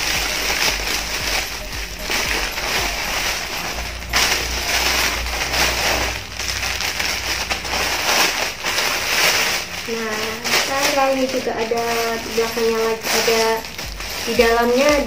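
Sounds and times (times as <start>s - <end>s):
plastic packaging crackling: 0.0s - 15.0s
plastic tearing: 0.0s - 15.0s.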